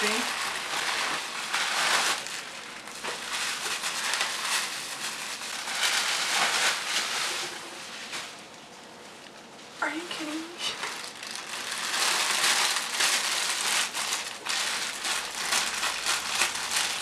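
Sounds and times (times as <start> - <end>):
bubble wrap and plastic bag crinkling: 0.0 - 17.0.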